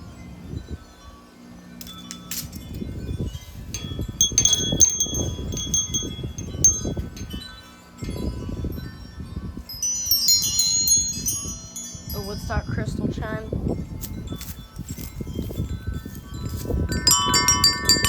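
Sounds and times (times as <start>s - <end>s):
wind chimes ringing: 0.0s - 18.0s
wind buffeting microphone: 2.6s - 18.0s.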